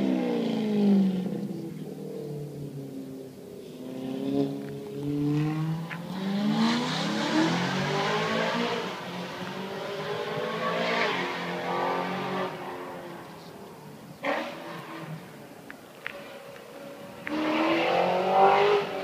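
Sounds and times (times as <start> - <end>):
car engine revving: 3.6 - 19.0.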